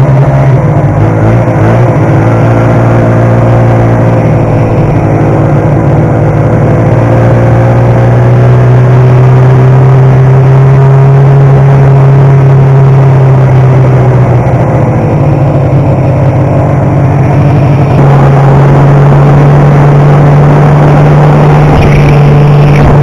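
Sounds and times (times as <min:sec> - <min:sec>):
snowmobile engine droning: 0:00.0 - 0:23.0.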